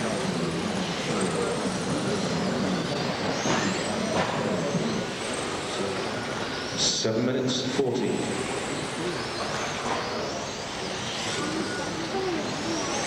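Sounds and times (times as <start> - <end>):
rc car motors whining: 0.0 - 6.8, 8.2 - 13.0.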